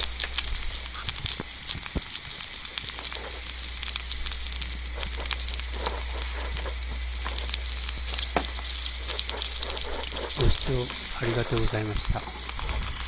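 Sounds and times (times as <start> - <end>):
fat popping and crackling: 0.0 - 13.0
meat sizzling on grill: 0.0 - 13.0.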